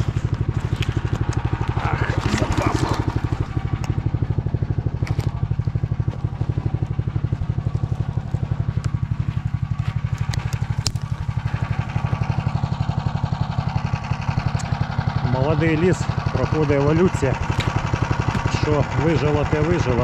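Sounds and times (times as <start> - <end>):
engine running with putting beat: 0.0 - 20.0.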